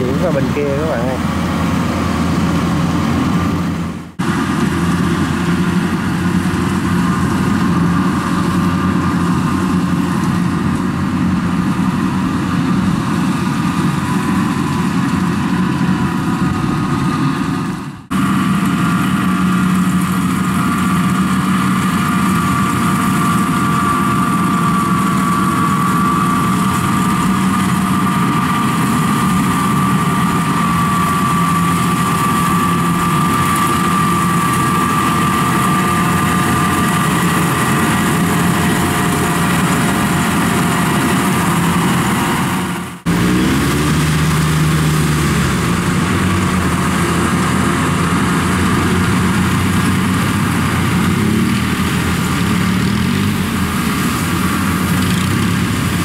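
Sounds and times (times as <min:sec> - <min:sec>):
harvester engine hum: 0:00.0 - 0:56.0
small engine running: 0:00.0 - 0:56.0.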